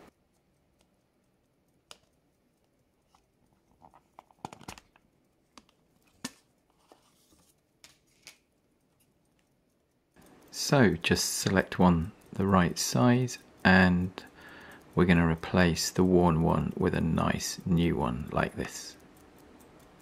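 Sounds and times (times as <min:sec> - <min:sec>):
small clicks and light rattles: 0:00.1 - 0:20.0.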